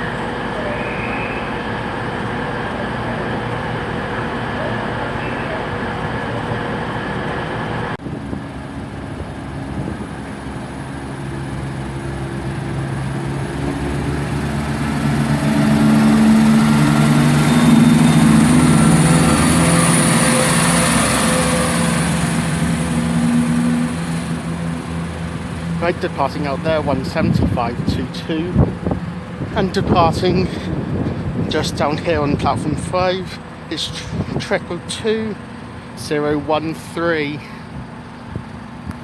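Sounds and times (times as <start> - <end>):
train diesel engines working: 0.0 - 39.0.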